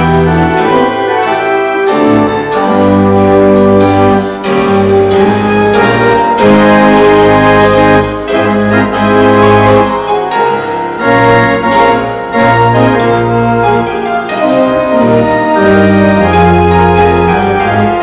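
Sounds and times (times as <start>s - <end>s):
organ chords: 0.0s - 18.0s.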